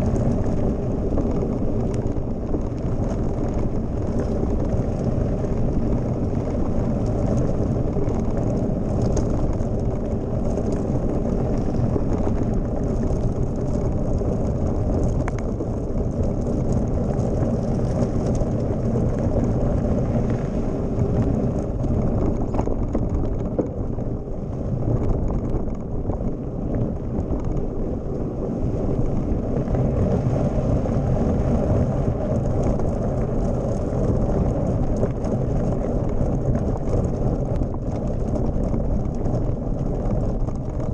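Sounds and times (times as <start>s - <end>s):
bike rattles and clicks: 0.0s - 40.9s
wind over microphone: 0.0s - 40.9s.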